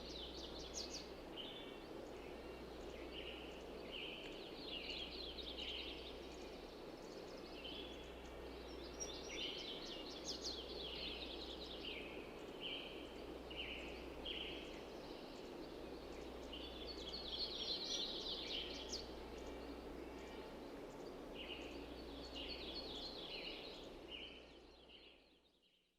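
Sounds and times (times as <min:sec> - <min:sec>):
background hiss: 0:00.0 - 0:25.7
small birds chirping: 0:00.0 - 0:25.7.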